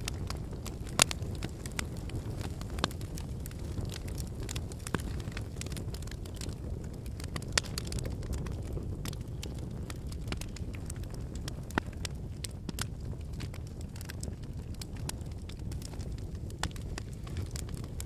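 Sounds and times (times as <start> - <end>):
campfire flames rushing: 0.0 - 18.0
firewood crackling and popping: 0.0 - 18.0.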